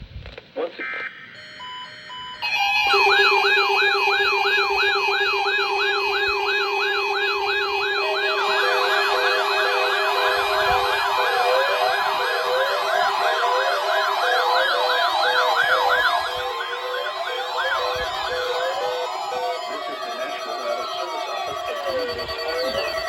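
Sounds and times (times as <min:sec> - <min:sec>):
electronic siren alarms wailing: 0:01.4 - 0:23.0.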